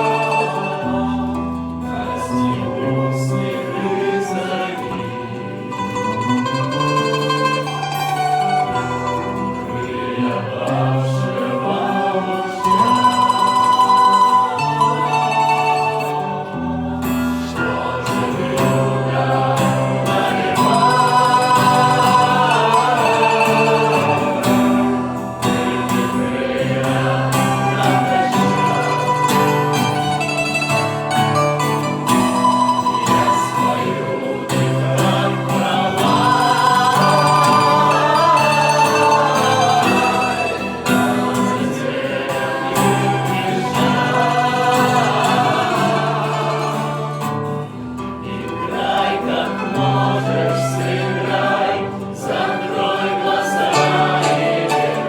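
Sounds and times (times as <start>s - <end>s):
people singing: 0.0s - 55.0s
plucked string instruments: 0.0s - 55.0s.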